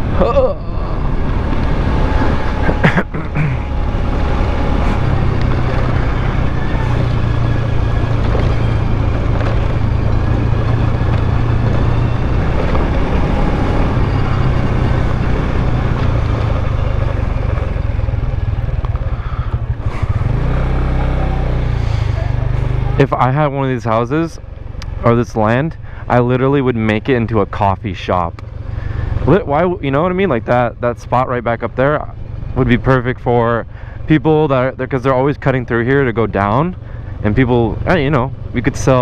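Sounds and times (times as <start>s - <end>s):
motorcycle engine running: 0.0s - 39.0s
road and wind noise: 0.0s - 39.0s.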